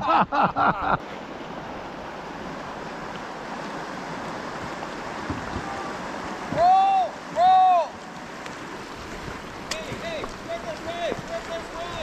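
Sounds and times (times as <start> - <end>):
river whitewater rushing: 0.9 - 12.0.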